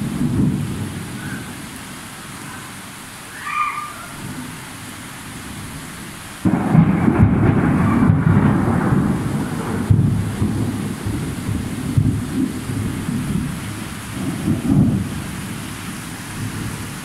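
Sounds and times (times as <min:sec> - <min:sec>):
thunder rumbling: 0:00.0 - 0:04.7, 0:06.4 - 0:17.0
rain hissing: 0:00.0 - 0:17.0.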